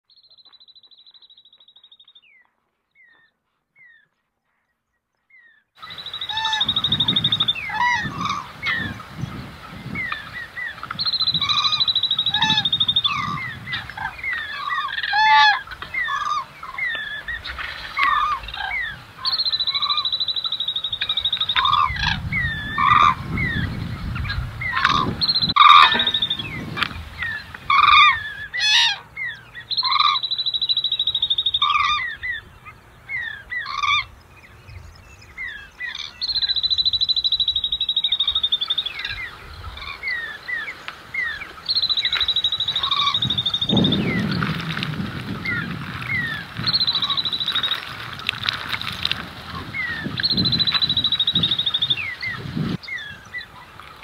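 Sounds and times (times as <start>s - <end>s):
birds chorus: 4.7s - 54.0s
rapid high bird trills: 5.8s - 34.2s, 35.4s - 53.6s.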